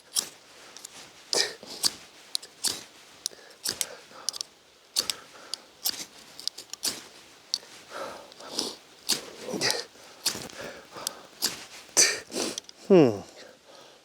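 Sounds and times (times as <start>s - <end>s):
ferro rod scraping: 0.0s - 12.7s.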